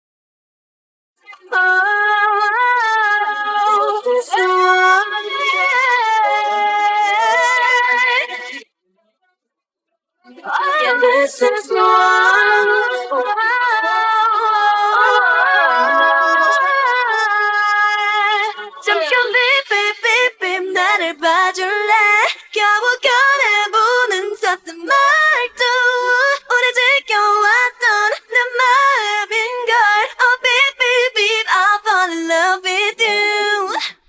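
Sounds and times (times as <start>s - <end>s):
woman singing: 1.3s - 8.6s, 10.3s - 34.0s.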